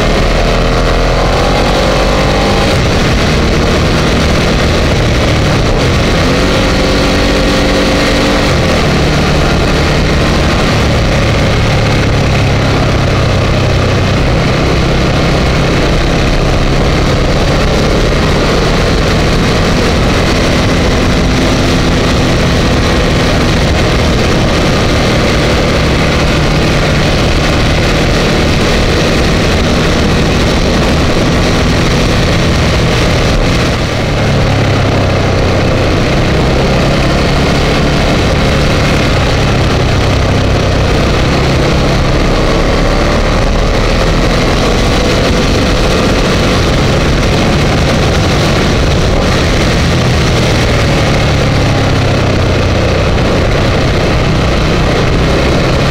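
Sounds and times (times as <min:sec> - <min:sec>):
motorcycle engine running: 0:00.0 - 0:55.9
wind rushing over camera: 0:00.0 - 0:55.9.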